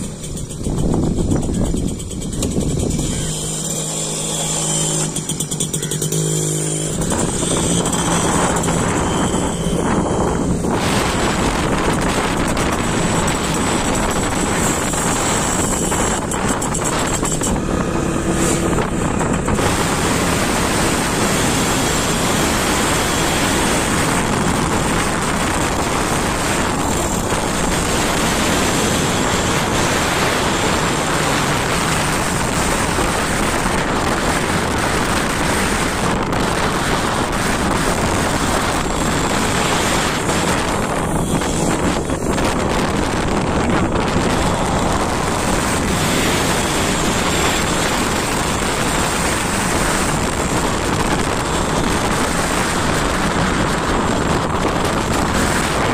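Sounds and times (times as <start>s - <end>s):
engine and road noise: 0.0s - 55.9s
wind rushing over microphone: 0.0s - 55.9s.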